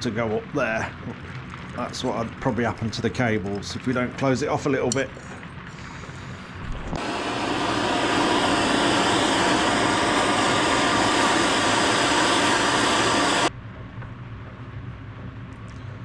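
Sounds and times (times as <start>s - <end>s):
gas torch flame burning: 0.0s - 13.6s.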